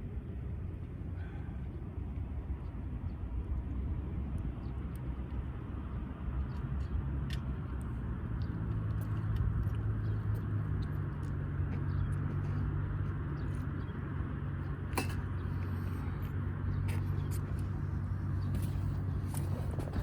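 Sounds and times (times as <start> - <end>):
low engine hum: 0.0 - 20.0
steady low rumble: 0.0 - 20.0.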